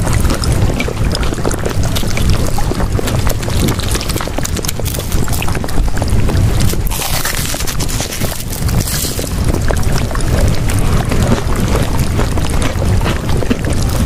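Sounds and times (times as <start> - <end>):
rushing water-like noise: 0.0 - 14.0.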